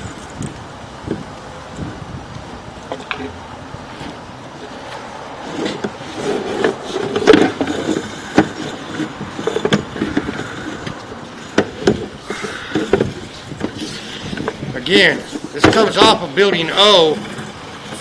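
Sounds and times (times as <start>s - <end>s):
steady scraping: 1.8s - 18.0s.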